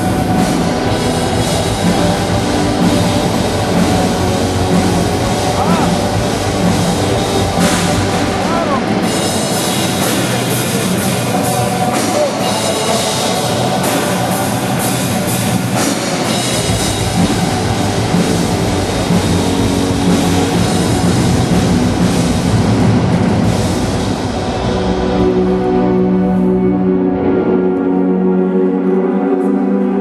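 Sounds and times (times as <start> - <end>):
drum kit with cymbal hits: 0.0 - 26.4
distorted guitars: 0.0 - 28.4.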